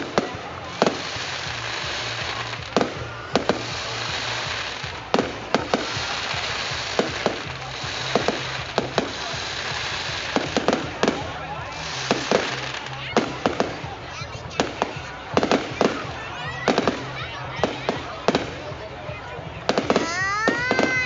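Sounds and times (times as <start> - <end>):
fireworks bangs: 0.0 - 19.0, 19.6 - 21.0.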